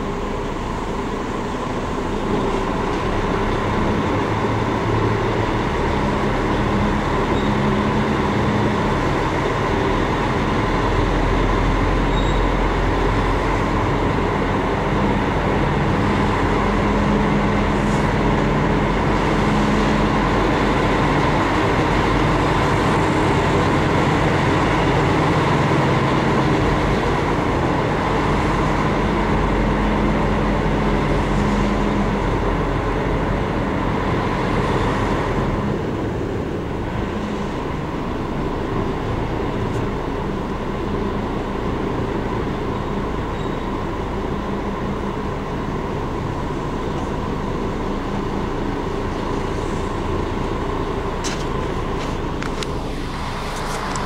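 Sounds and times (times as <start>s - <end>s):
lorry diesel engine running: 0.0s - 54.0s
road noise: 0.0s - 54.0s.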